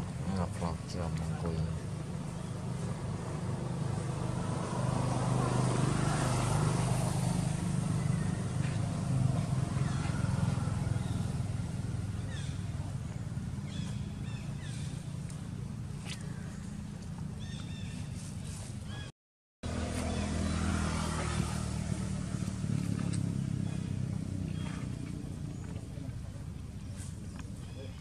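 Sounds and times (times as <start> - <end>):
motor engine running: 0.0 - 19.0, 19.6 - 28.0.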